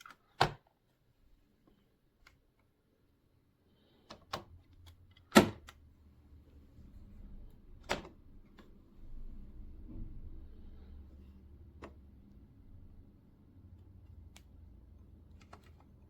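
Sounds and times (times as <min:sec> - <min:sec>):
low steady hum: 0:01.1 - 0:16.0.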